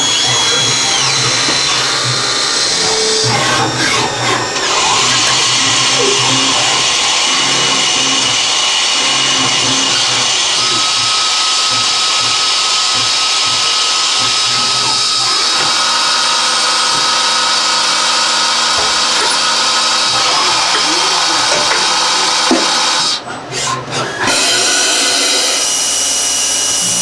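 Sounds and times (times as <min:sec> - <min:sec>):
lathe machining with whining tones: 0:00.0 - 0:27.0.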